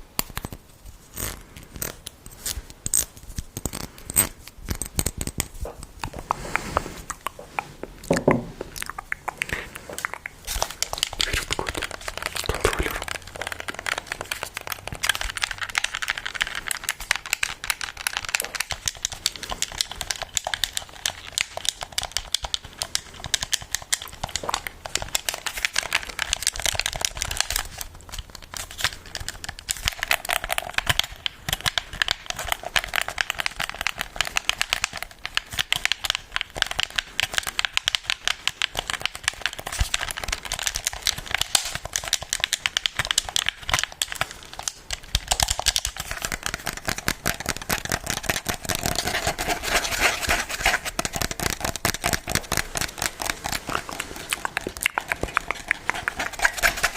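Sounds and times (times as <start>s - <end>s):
crinkling and crackling: 0.0s - 56.9s.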